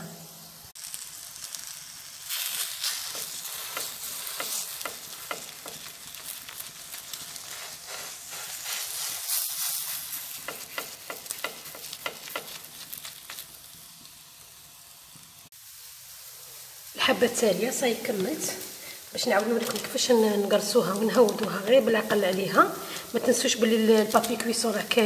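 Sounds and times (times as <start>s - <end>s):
oil sizzling and crackling: 0.0s - 25.0s.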